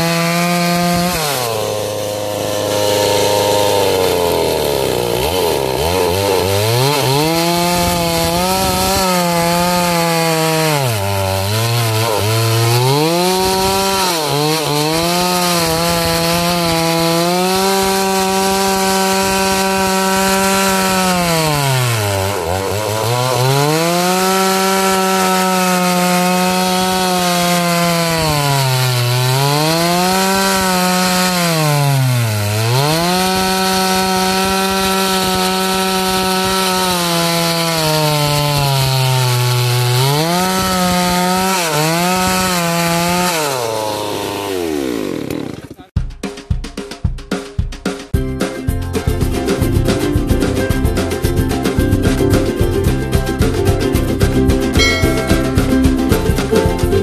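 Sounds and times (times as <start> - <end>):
chainsaw cutting wood: 0.0 - 46.0, 50.2 - 57.0.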